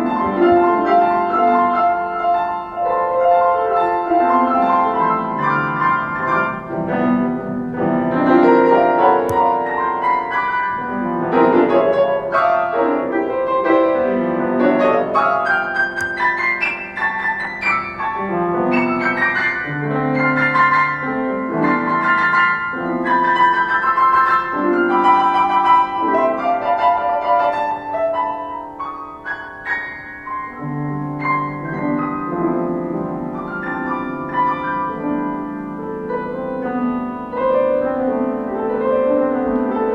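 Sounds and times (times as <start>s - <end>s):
piano playing melody over chords: 0.0s - 39.9s.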